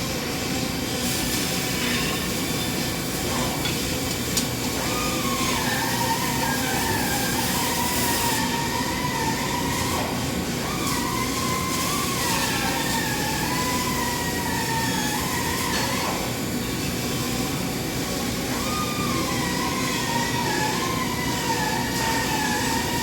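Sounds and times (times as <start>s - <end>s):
welding arc hissing and humming: 0.0s - 23.0s.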